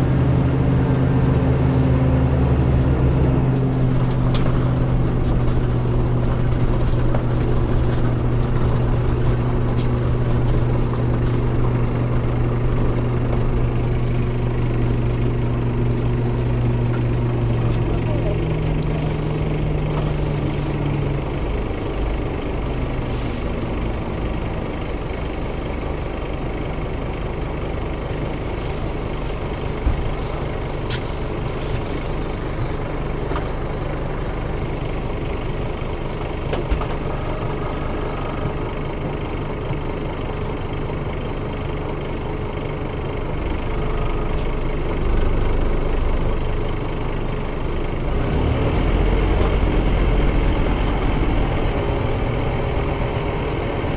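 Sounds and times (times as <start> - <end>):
bus engine idling: 0.0 - 53.9.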